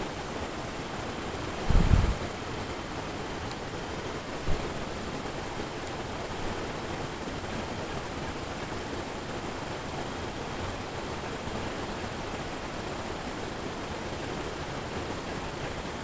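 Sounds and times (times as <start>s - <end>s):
stream water over rapids: 0.0s - 16.0s.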